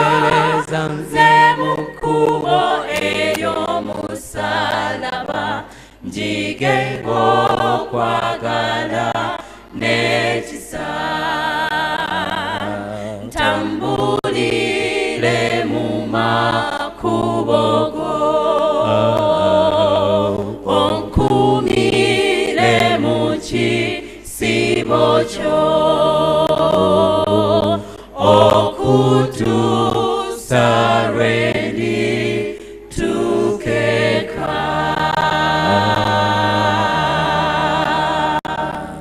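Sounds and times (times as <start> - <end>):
choir singing in harmony: 0.0 - 39.0.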